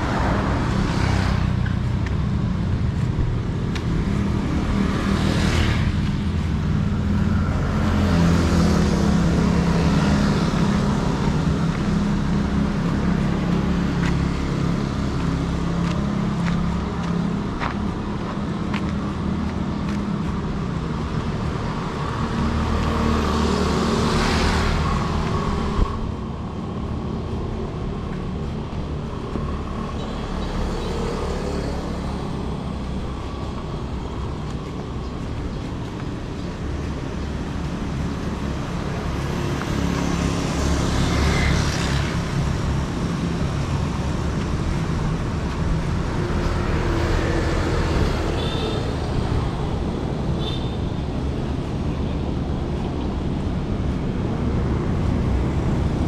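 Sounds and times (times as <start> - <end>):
vehicle engines humming: 0.0 - 56.0
vehicles passing: 0.0 - 56.0.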